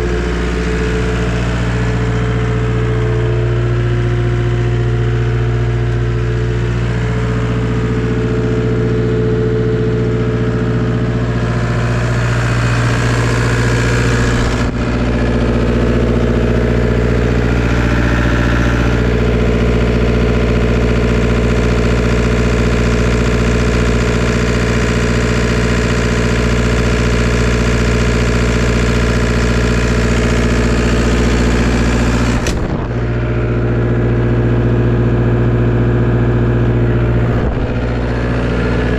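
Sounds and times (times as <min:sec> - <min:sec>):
track loader diesel engine: 0:00.0 - 0:38.9.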